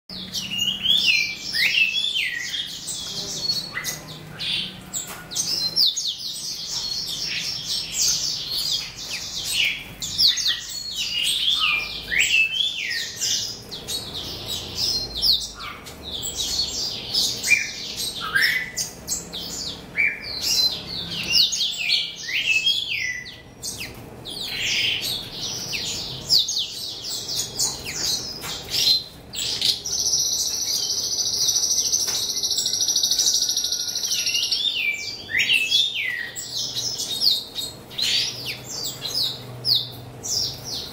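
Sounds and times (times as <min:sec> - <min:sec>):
birds singing: 0:00.1 - 0:40.9.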